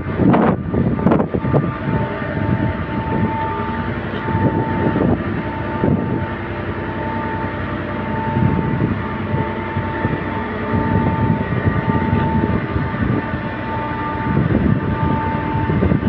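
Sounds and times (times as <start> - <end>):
compressor drone with whine: 0.0 - 16.0.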